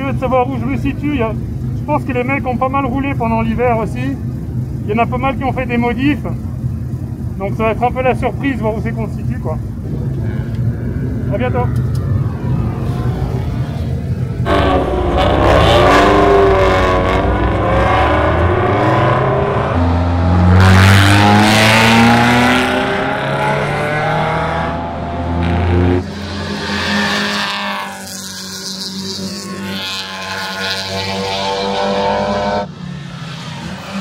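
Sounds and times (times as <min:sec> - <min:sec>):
race car engine accelerating: 0:03.6 - 0:34.0.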